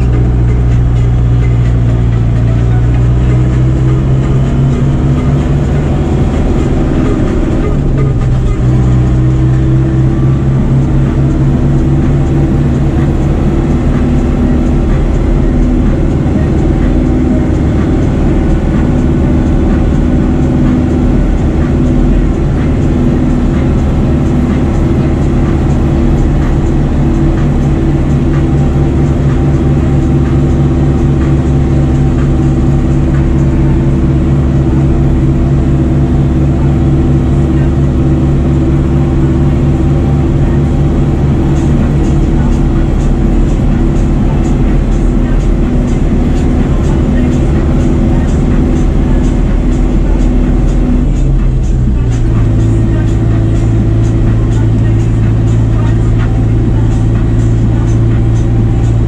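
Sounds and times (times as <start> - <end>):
tractor diesel engine drone: 0.0 - 59.0.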